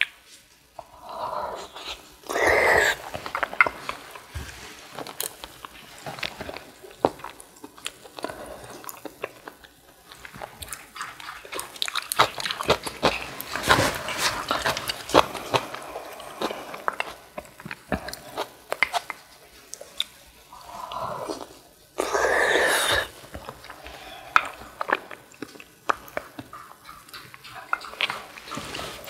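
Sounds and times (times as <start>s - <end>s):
chewing and crunching: 0.0s - 29.0s.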